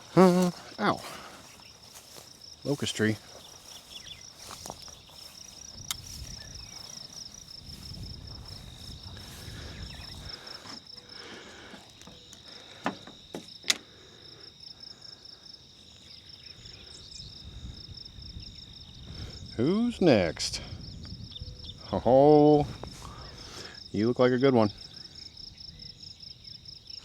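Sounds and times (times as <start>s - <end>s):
insects chirping in a pulsing trill: 0.0s - 27.0s.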